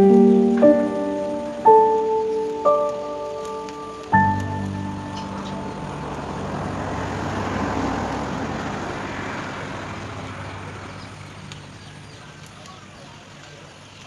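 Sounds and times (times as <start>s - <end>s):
motor vehicle passing by: 0.2s - 13.0s.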